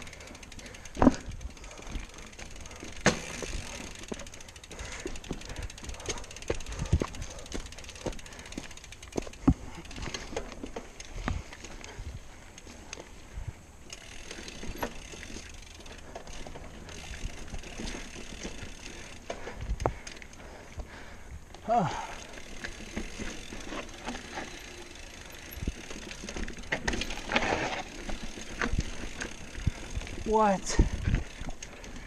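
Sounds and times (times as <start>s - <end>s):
freewheel ticking: 0.0s - 10.3s, 13.8s - 32.0s
wheels knocking on rocks: 0.0s - 11.9s, 13.9s - 20.9s, 21.8s - 32.0s
bike rattling: 0.0s - 32.0s.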